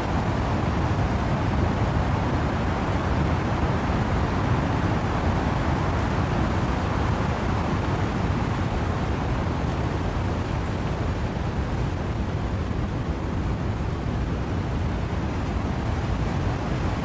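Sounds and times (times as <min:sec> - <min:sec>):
wind and rain through trees: 0:00.0 - 0:17.0.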